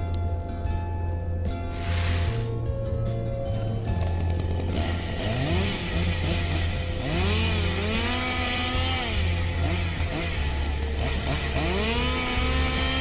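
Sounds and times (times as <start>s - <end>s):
low bass drone: 1.5s - 13.0s.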